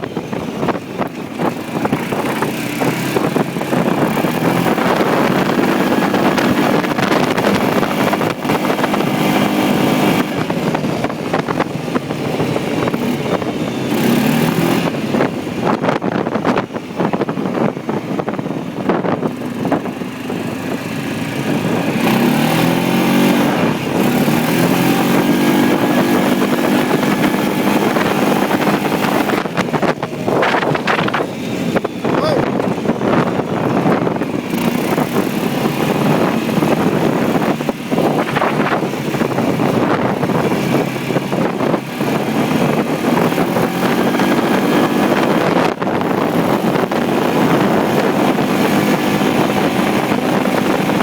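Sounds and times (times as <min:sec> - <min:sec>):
four-stroke engine revving: 0:00.0 - 0:51.0
wind buffeting microphone: 0:00.0 - 0:51.0.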